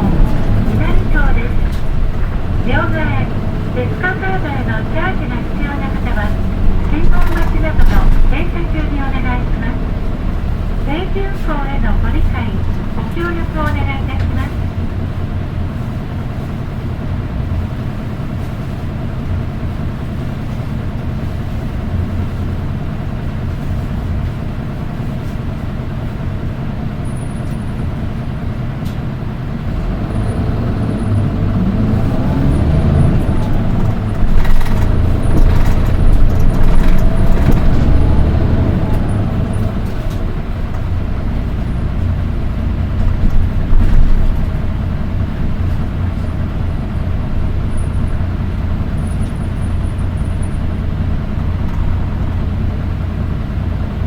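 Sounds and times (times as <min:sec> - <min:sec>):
bus diesel engine running: 0:00.0 - 0:54.0
shrill engine whine: 0:00.0 - 0:54.0.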